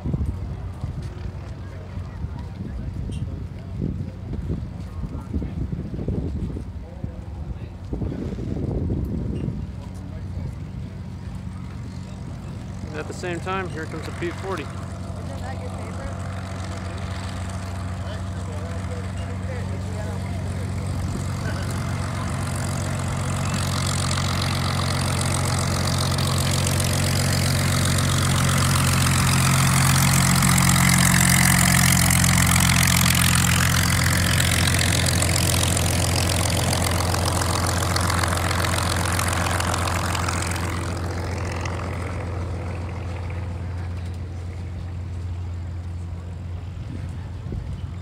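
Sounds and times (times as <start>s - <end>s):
propeller plane engine taxiing: 0.0s - 48.0s.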